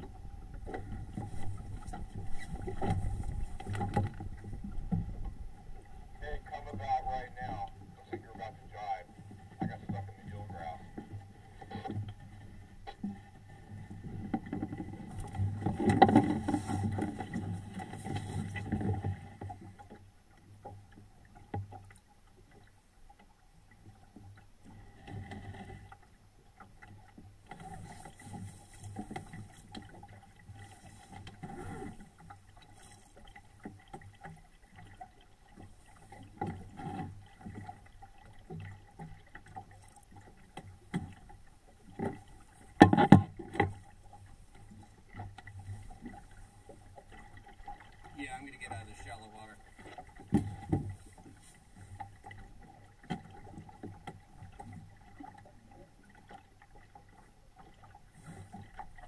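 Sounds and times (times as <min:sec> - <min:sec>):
water rushing along boat hull: 0:00.0 - 0:59.0.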